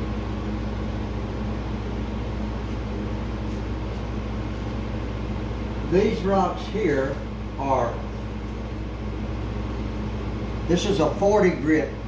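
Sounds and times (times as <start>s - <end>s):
mechanical hum with low drone: 0.0s - 12.0s.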